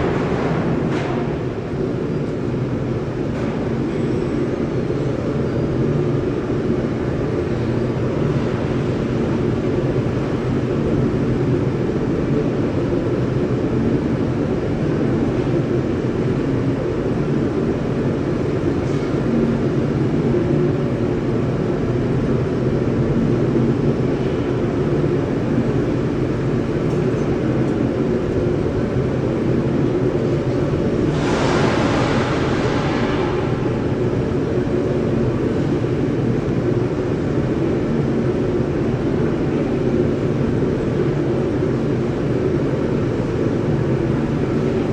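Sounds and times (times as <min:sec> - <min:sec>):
loud industrial furnace roar: 0:00.0 - 0:44.9.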